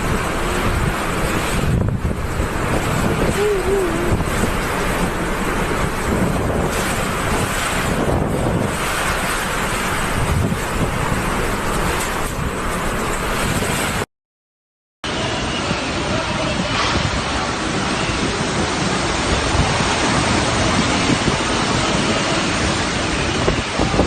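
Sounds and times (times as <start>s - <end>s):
strong wind rushing: 0.0s - 14.0s, 15.1s - 24.0s
wind buffeting microphone: 0.0s - 14.0s, 15.2s - 24.0s.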